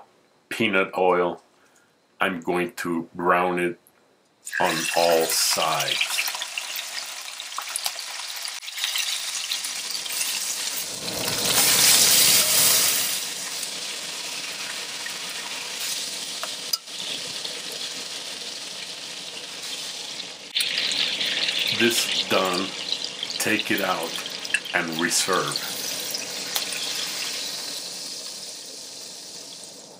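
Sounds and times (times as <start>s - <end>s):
oil sizzling in a pot: 4.5s - 29.9s.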